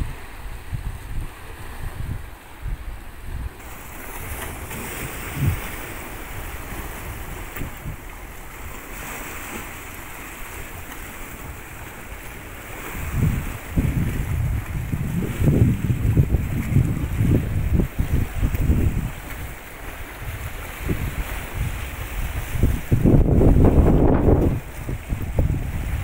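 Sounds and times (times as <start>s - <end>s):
waves washing against rocks: 0.0s - 26.0s
wind buffeting microphone: 0.0s - 26.0s.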